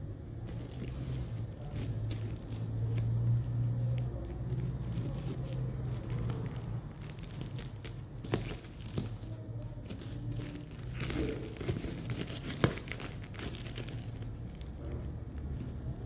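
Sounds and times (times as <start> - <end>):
plastic crinkling: 0.3 - 16.0
scissors cutting plastic: 0.4 - 15.8.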